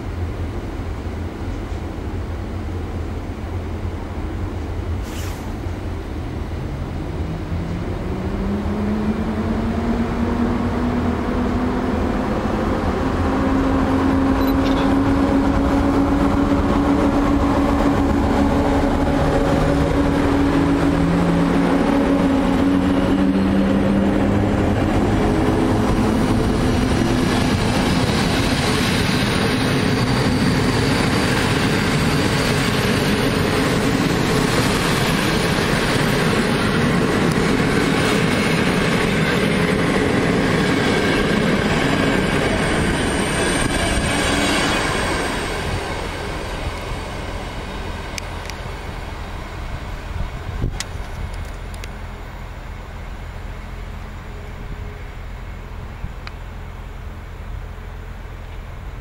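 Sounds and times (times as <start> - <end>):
electric locomotive whine: 0.0 - 59.0
wheels rumbling on rails: 0.0 - 59.0.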